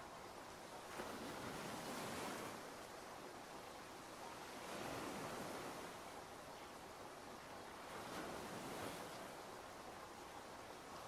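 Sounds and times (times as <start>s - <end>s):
ocean waves washing in: 0.0s - 11.0s.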